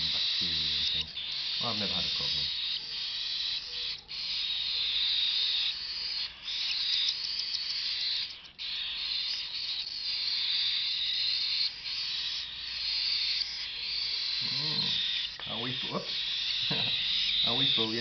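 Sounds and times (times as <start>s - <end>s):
cockatiel chick begging call: 0.0s - 18.0s.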